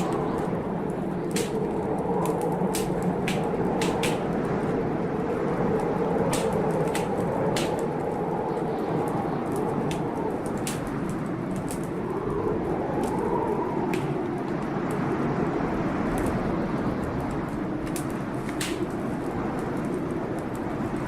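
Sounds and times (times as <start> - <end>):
storm wind howling: 0.0 - 21.0
wood fire crackling: 0.0 - 21.0.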